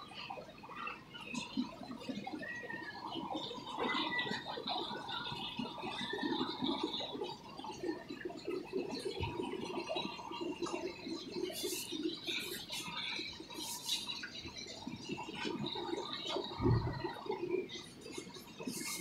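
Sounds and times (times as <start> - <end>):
aquarium filter bubbling: 0.0 - 19.0.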